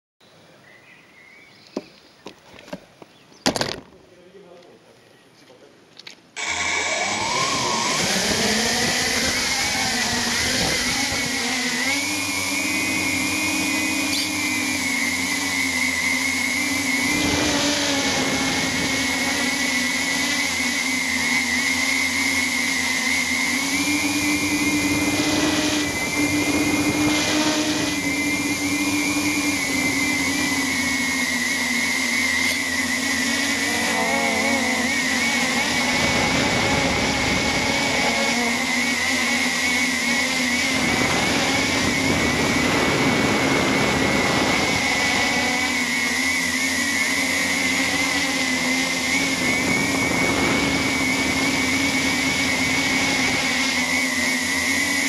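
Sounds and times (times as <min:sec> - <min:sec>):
quadcopter motors whining: 0:01.5 - 0:04.8, 0:05.5 - 0:55.0.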